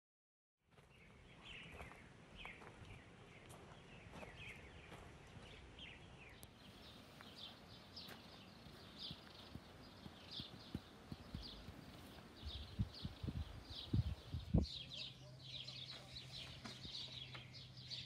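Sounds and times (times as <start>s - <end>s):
small bird chirping: 0.9s - 18.0s.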